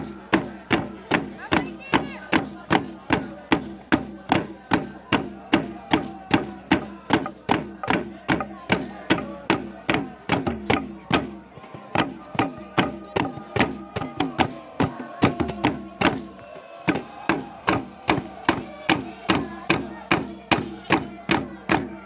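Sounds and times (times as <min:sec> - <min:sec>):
sharp percussion beat: 0:00.0 - 0:22.0
voices chanting a melody: 0:00.0 - 0:22.0.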